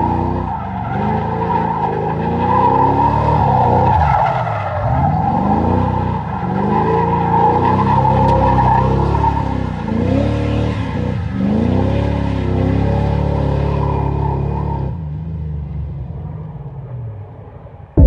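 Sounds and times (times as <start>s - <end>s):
tires squealing: 0.0s - 18.0s.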